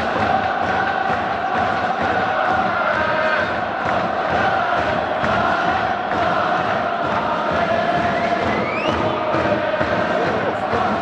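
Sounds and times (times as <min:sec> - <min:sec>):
crowd chanting: 0:00.0 - 0:11.0.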